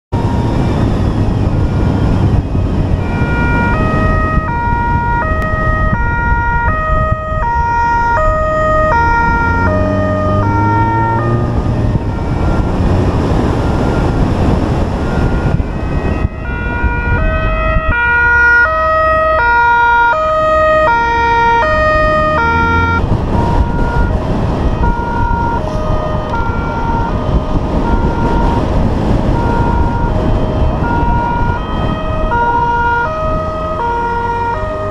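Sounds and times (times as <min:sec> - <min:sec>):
car engine and tyres: 0:00.1 - 0:34.9
two-tone police siren: 0:00.1 - 0:34.9
car engine revving: 0:00.2 - 0:34.9.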